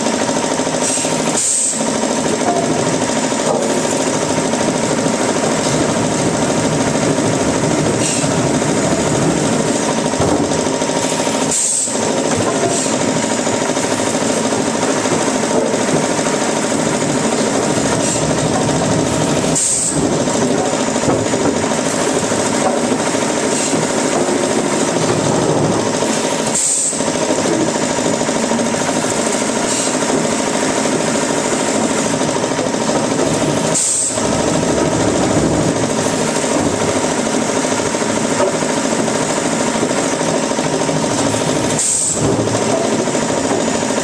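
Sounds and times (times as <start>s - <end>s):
wood-processing machinery running: 0.0s - 44.0s.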